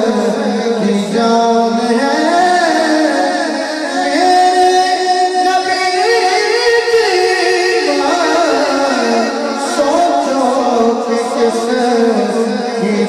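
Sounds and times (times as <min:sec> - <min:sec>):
man singing through a microphone: 0:00.0 - 0:13.0.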